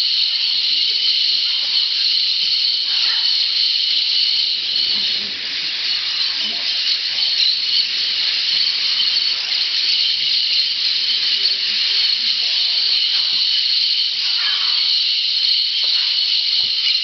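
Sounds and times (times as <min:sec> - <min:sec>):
massed animal calls: 0:00.0 - 0:17.0.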